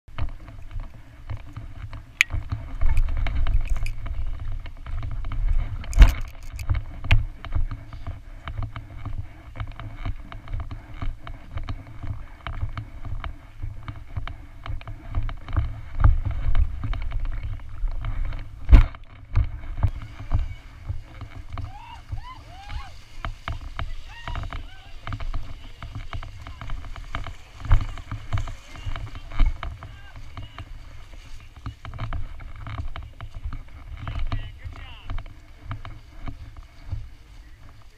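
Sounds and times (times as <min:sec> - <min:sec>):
wind rumble on camera: 0:00.1 - 0:37.9.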